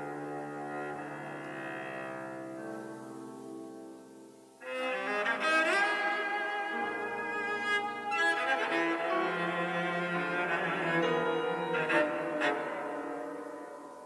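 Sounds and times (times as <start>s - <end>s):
cello: 0.0s - 14.0s
piano: 0.0s - 14.0s.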